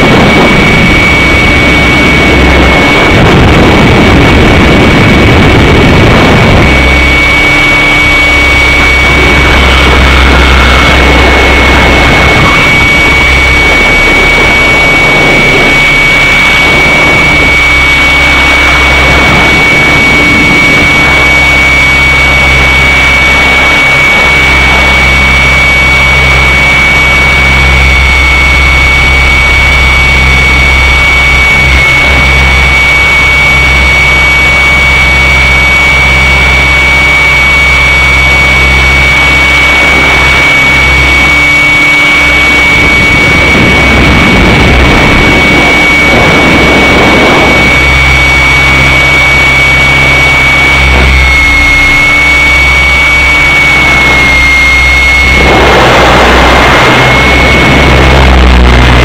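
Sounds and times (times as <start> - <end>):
model helicopter rotor whine: 0.0 - 59.0.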